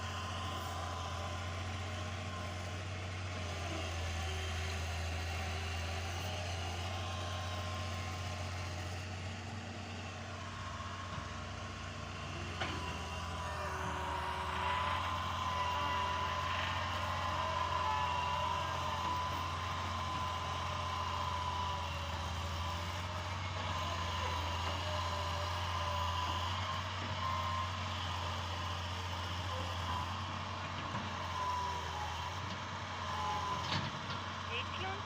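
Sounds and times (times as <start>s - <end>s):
excavator diesel engine droning: 0.0s - 35.0s.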